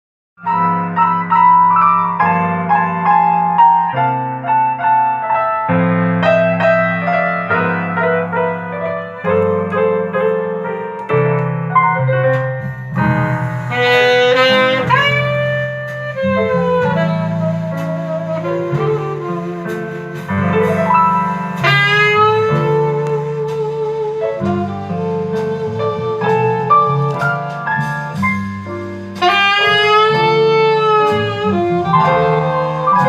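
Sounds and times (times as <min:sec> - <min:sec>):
saxophone melody over piano: 0:00.4 - 0:33.0.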